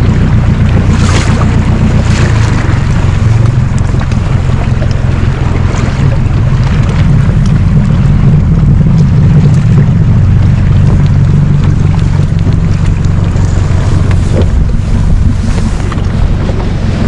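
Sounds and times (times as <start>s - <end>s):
outboard motor running: 0.0s - 17.0s
water rushing past hull: 0.0s - 17.0s
water splashes: 0.0s - 17.0s
wind buffeting microphone: 0.0s - 17.0s.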